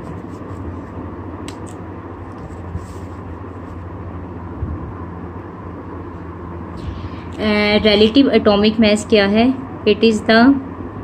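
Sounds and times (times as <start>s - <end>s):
low background hum and rumble: 0.0s - 11.0s.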